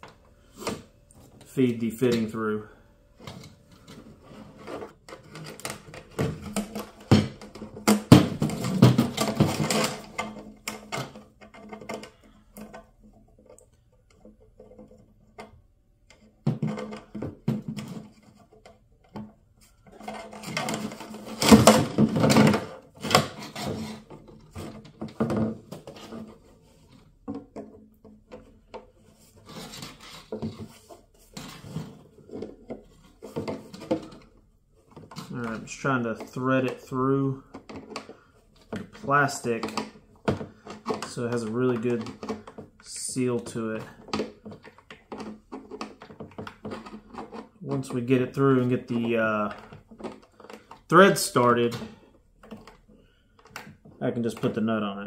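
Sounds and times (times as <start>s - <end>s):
metal cable scraping in plastic tank: 3.2s - 15.6s, 19.6s - 54.4s.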